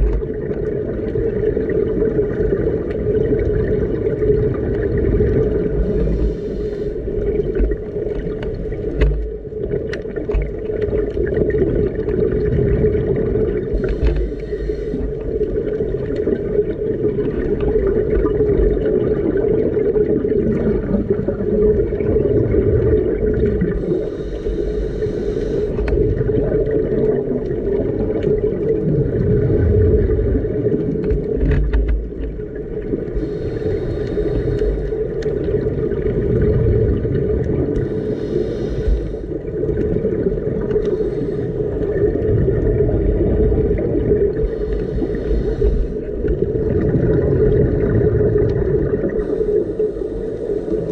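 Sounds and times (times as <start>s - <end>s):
scuba divers exhaling bubbles: 0.0s - 50.9s
underwater boat motor hum: 0.0s - 50.9s.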